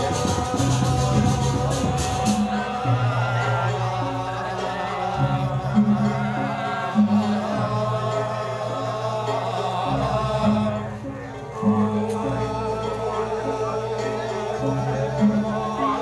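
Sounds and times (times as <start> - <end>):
chanting voices: 0.0 - 16.0.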